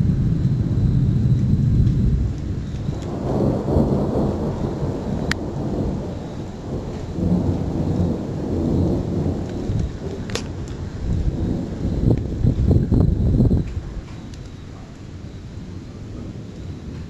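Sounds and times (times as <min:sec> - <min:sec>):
thunder rumbling: 0:00.0 - 0:17.0.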